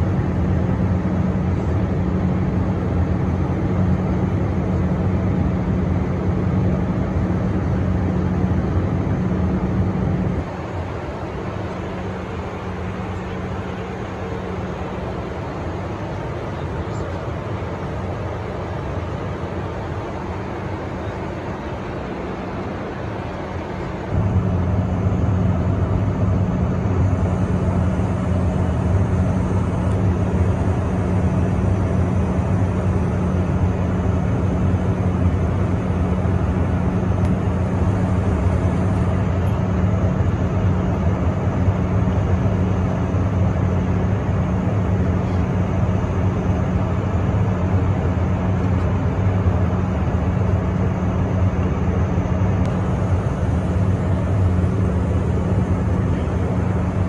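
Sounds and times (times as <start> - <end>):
constant low hum: 0.0 - 57.0
rush of air in jet cabin: 0.0 - 57.0.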